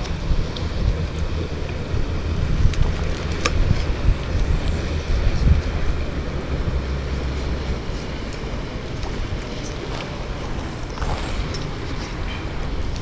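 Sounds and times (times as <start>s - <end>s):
low outdoor rumble: 0.0s - 13.0s
wash of noise: 0.0s - 13.0s.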